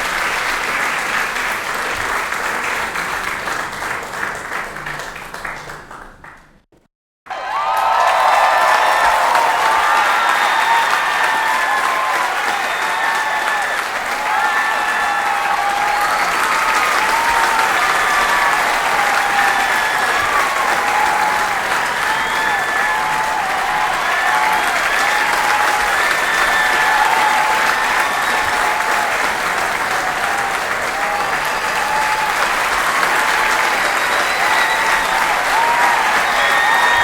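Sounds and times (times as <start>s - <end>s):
crowd applauding: 0.0s - 6.6s, 7.3s - 37.0s.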